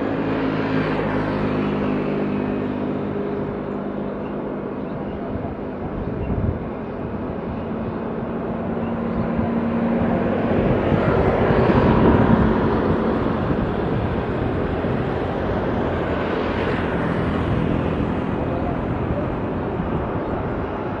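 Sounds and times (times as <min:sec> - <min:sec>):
jet engine rumble: 0:00.0 - 0:21.0.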